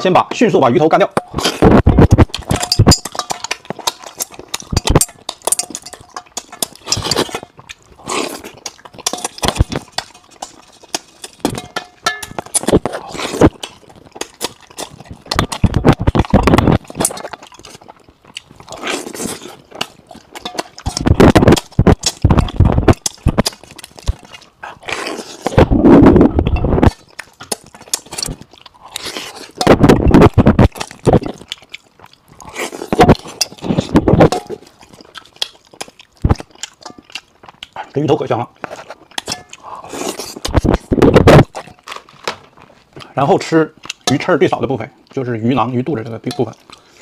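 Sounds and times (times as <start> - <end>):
person slurping and chewing: 1.2 - 47.0.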